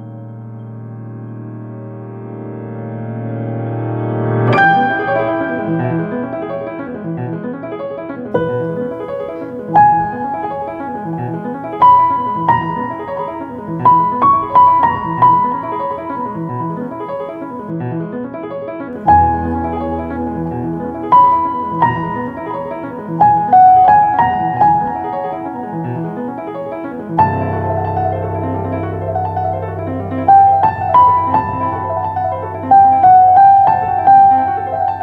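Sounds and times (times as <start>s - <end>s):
slow piano melody: 0.0s - 35.0s.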